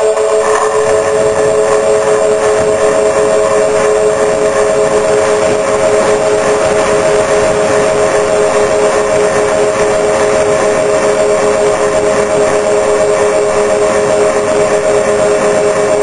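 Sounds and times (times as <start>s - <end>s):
electric motors whining: 0.0s - 16.0s
wind rushing: 0.0s - 16.0s.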